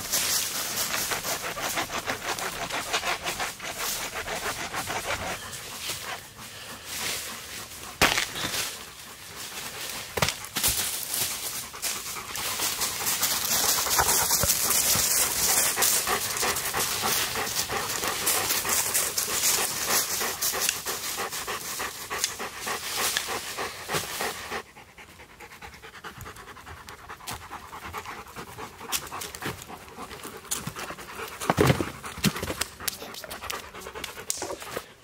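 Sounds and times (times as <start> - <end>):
dog panting: 0.0 - 35.0.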